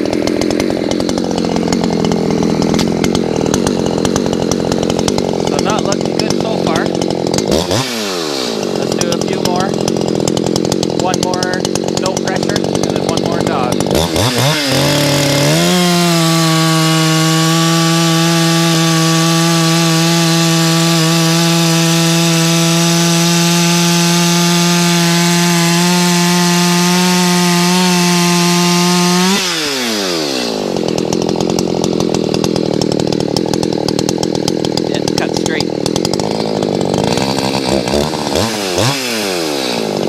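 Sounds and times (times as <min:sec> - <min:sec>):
chainsaw cutting log: 0:00.0 - 0:40.0.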